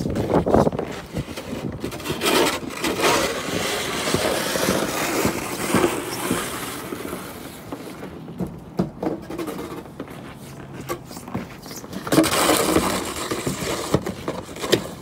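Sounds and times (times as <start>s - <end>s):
snow shovel scraping snow: 0.0s - 8.0s, 10.4s - 15.0s.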